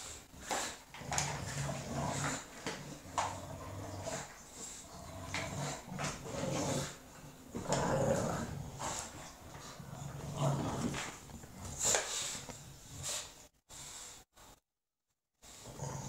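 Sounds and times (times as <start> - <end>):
dogs growling: 0.4 - 13.4, 15.5 - 16.0.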